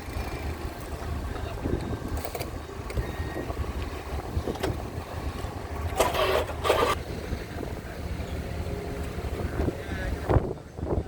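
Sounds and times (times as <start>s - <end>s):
ferry engines running: 0.0s - 11.0s
wind buffeting microphone: 0.0s - 11.0s.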